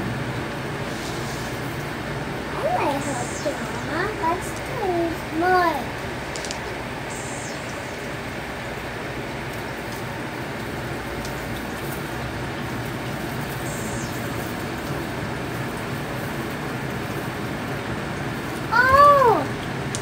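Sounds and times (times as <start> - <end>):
low hum: 0.0 - 16.3.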